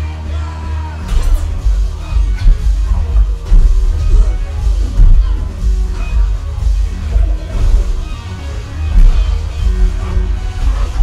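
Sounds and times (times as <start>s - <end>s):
electronic music with heavy bass: 0.0s - 11.0s
strong bass hit: 1.1s - 8.2s, 8.8s - 11.0s.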